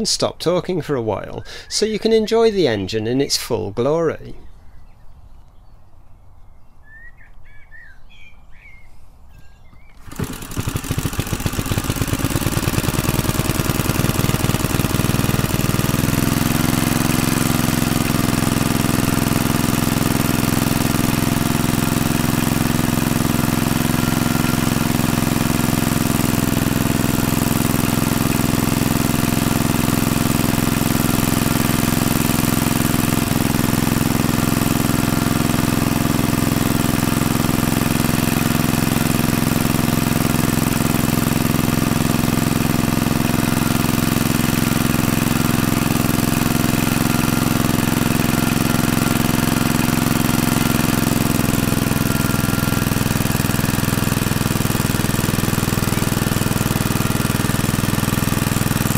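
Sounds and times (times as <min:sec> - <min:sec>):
small generator engine running: 0:09.9 - 0:58.9.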